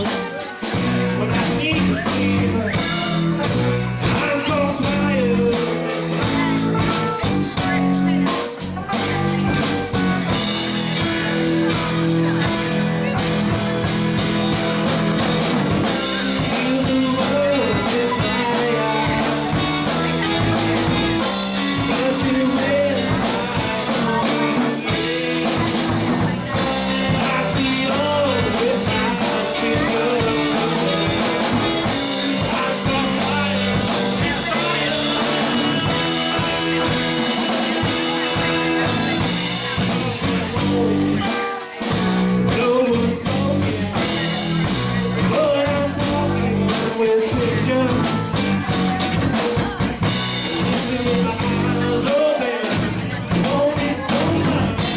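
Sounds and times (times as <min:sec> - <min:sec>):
bass guitar: 0:00.0 - 0:54.9
drum kit: 0:00.0 - 0:54.9
electric guitar: 0:00.0 - 0:54.9
person singing: 0:00.0 - 0:54.9.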